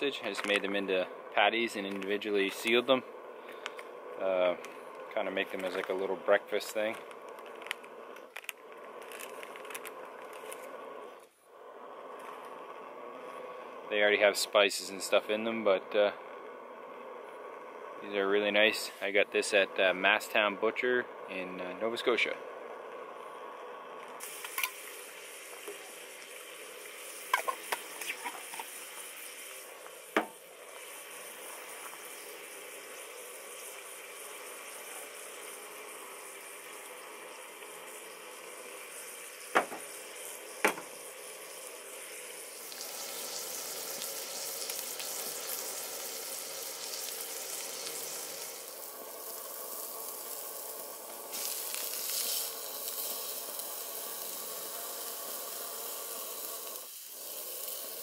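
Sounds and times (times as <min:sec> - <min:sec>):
sausage patties sizzling: 0:00.0 - 0:58.0.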